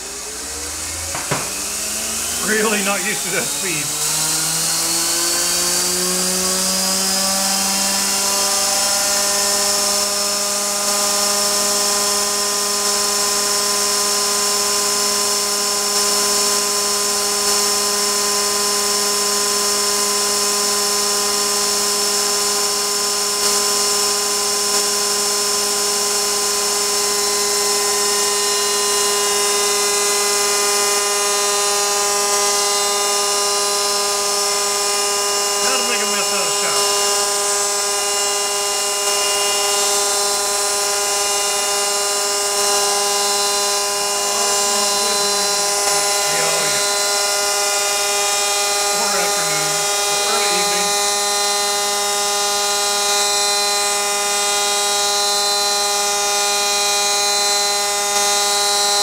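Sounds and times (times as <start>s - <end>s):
milling machine high-speed whine: 0.0s - 59.0s.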